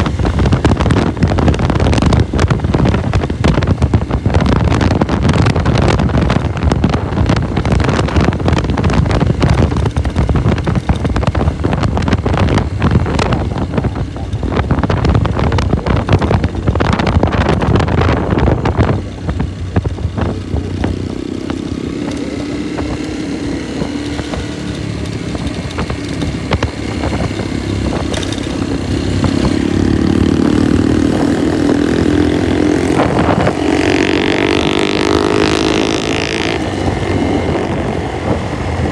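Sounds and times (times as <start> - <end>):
motorcycle engine: 0.0 - 38.9
wind buffeting microphone: 0.0 - 38.9.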